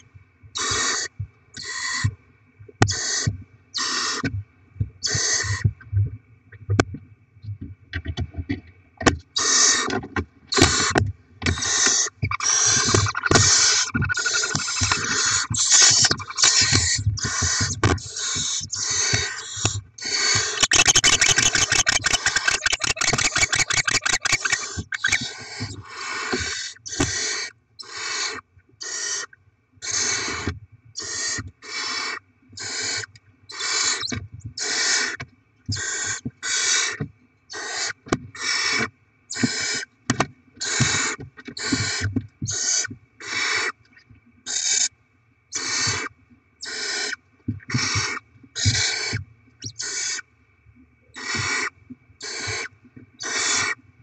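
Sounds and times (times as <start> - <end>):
owl chicks raspy hissing: 0.6 - 2.0, 2.9 - 4.2, 5.0 - 5.6, 9.4 - 9.9, 10.5 - 39.9, 40.6 - 43.8, 44.5 - 44.9, 45.5 - 50.2, 51.2 - 53.8.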